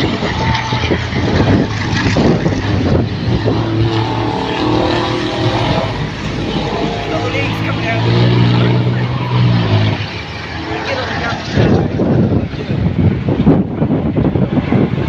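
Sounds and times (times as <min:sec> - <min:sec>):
truck engines racing: 0:00.0 - 0:15.0.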